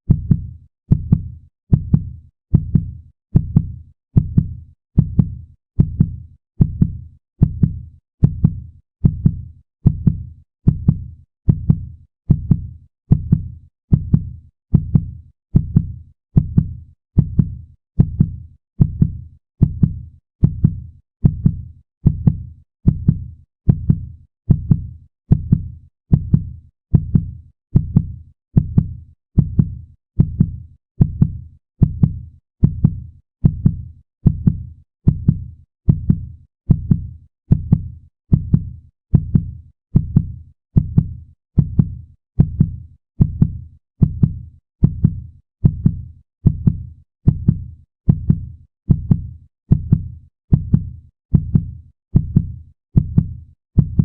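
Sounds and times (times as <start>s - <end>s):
fast heartbeat thumps: 0.1s - 54.0s.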